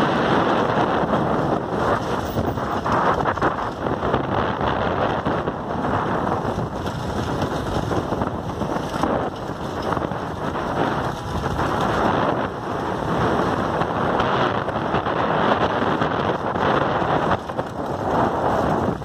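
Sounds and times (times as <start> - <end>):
vehicle road noise: 0.0 - 19.0
wind buffeting microphone: 0.0 - 19.0.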